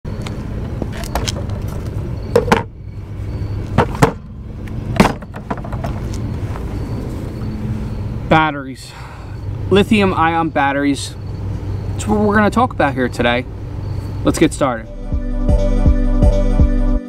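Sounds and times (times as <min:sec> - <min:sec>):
steady low hum: 0:00.1 - 0:16.2.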